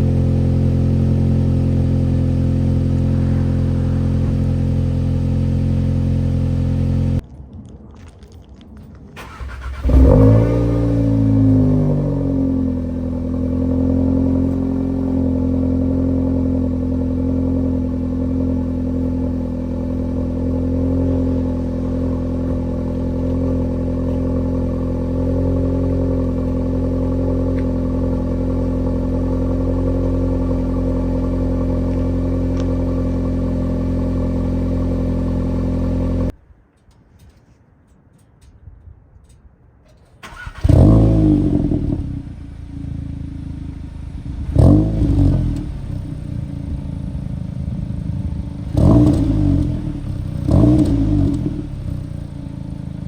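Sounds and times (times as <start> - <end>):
car engine idling: 0.0 - 7.2, 9.2 - 36.9, 40.2 - 53.0.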